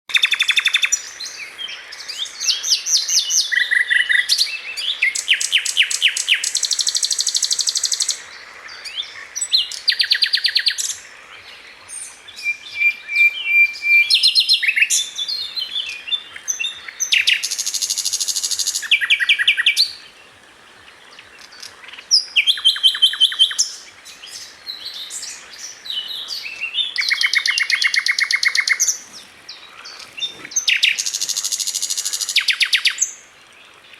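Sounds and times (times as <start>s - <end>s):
songbird trilling and chirping: 0.1s - 20.1s, 21.1s - 33.2s.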